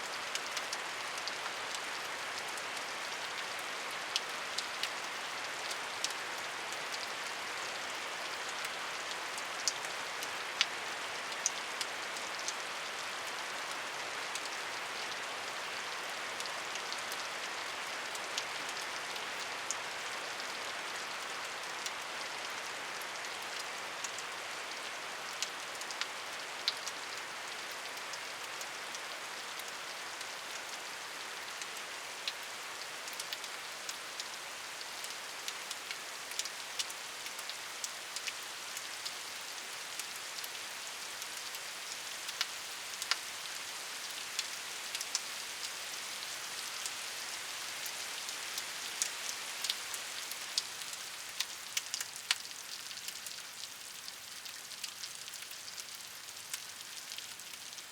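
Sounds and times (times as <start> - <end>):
raindrops ticking on a surface: 0.0 - 57.9
steady rain hiss: 0.0 - 57.9.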